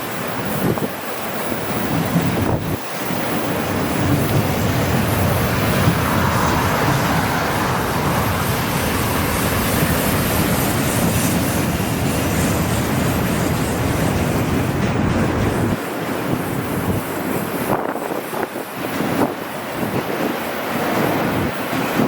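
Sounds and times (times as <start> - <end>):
freight train rolling past: 0.0 - 22.0
steel wheels rattling on rails: 0.0 - 22.0.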